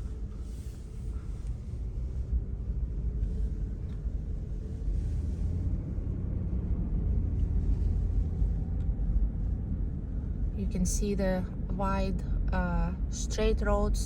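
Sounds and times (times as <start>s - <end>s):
car driving heard from inside: 0.0s - 14.0s.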